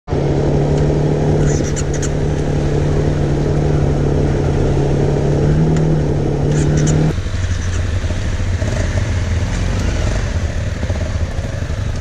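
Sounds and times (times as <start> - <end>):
dirt bike engines idling: 0.1 - 12.0.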